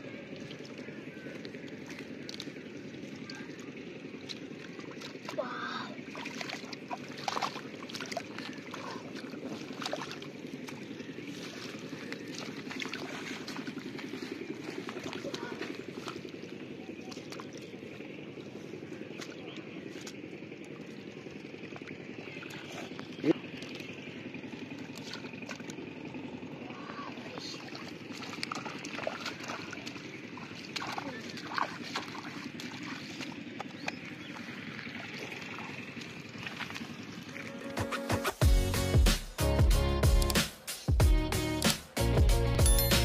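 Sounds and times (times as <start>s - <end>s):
splashing in muddy water: 0.0s - 38.1s.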